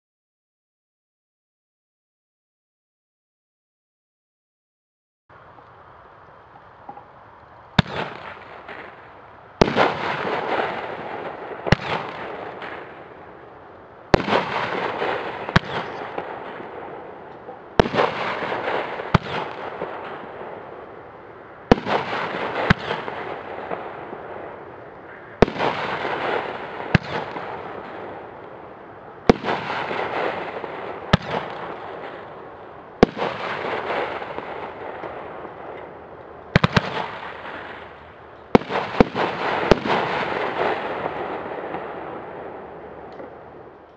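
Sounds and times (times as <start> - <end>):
fireworks crackling: 5.3 - 43.9
fireworks bangs: 7.7 - 43.9.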